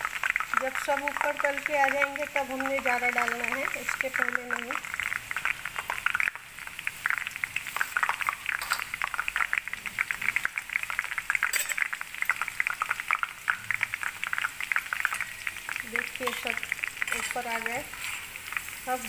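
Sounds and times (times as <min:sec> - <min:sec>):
dough deep-frying in oil: 0:00.0 - 0:19.0.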